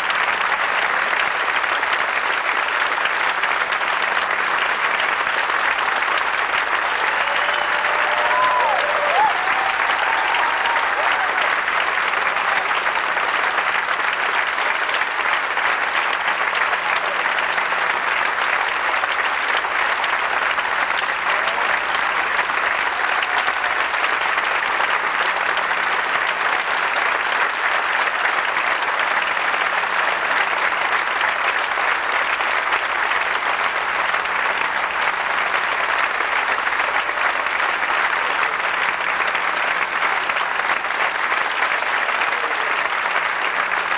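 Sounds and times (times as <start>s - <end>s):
audience applauding: 0.0s - 43.9s.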